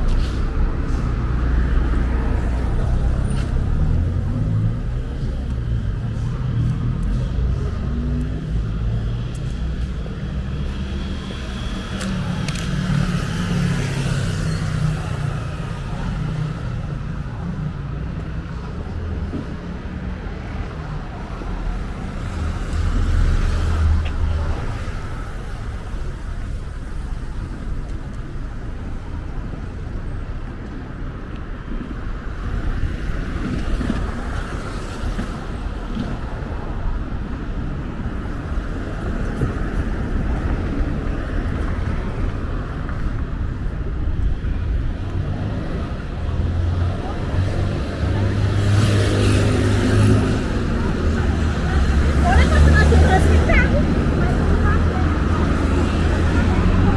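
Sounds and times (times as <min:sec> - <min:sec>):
cars passing: 0:00.0 - 0:56.9
low traffic rumble: 0:00.0 - 0:56.9.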